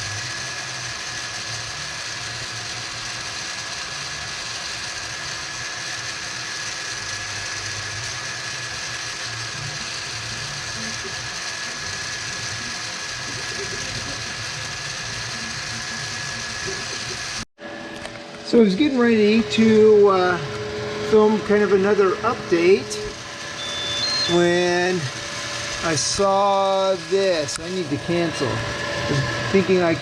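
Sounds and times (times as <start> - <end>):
printer fan hum with whine: 0.0 - 30.0
stepper motors buzzing: 0.0 - 30.0.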